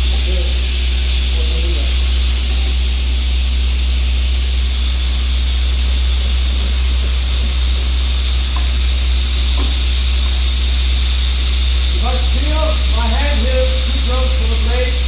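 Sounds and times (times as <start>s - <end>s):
dust extraction hiss: 0.0s - 15.0s
table saw running: 0.0s - 15.0s.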